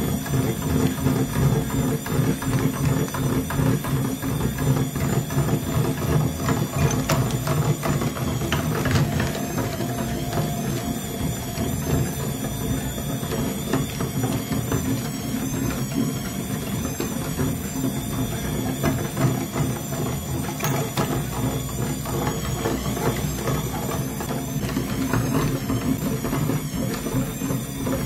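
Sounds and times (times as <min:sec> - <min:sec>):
meat grinder grinding chalk: 0:00.0 - 0:28.0.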